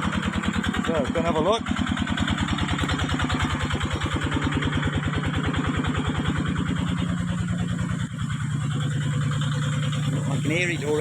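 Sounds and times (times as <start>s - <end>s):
pump engine running: 0.0s - 11.0s.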